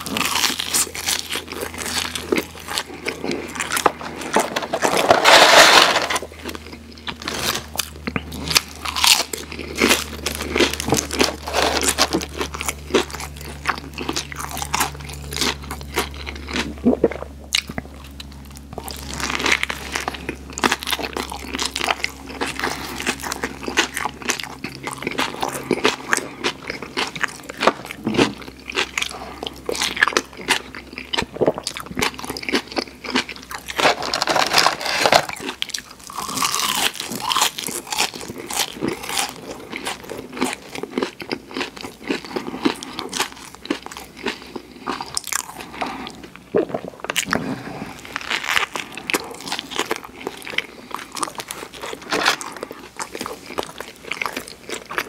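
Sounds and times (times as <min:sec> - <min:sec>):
crunchy sandwich chewing: 0:00.0 - 0:55.0.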